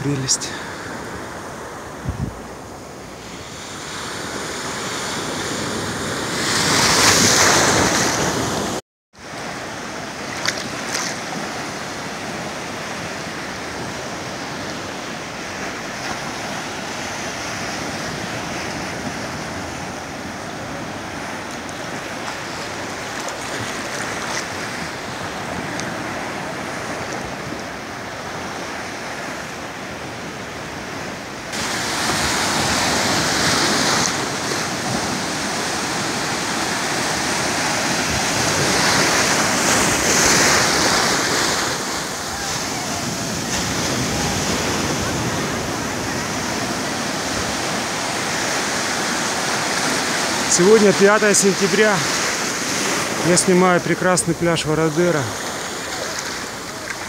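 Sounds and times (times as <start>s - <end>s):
foamy surf breaking: 0.0s - 57.0s
small waves washing: 0.0s - 57.0s.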